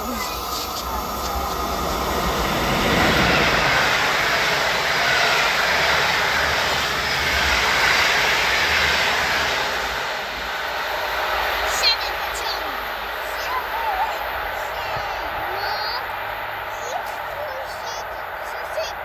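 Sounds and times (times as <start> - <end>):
train coaches rolling past: 0.0 - 19.0.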